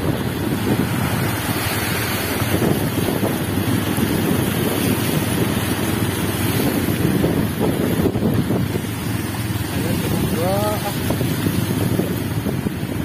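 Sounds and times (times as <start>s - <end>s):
floodwater washing from vehicles: 0.0s - 13.0s
wind buffeting microphone: 0.0s - 13.0s.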